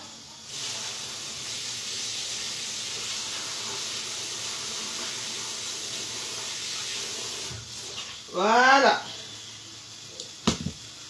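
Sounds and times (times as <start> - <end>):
water running from a tap: 0.4 - 11.0.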